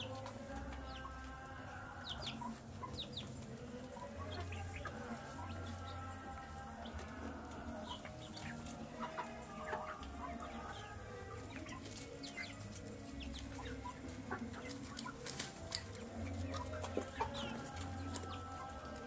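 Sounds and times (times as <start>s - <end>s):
chicks peeping and clucking: 0.0s - 19.0s.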